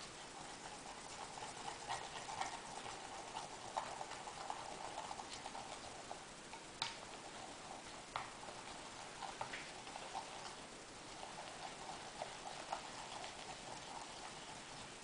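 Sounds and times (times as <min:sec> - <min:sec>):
stick stirring slime: 0:00.0 - 0:15.0.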